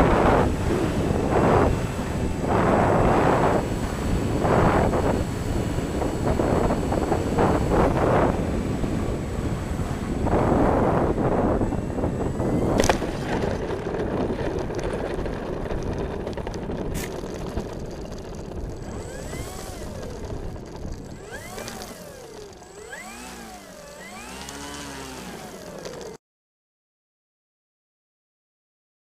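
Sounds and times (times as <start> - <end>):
electric motor whine: 0.0 - 26.2.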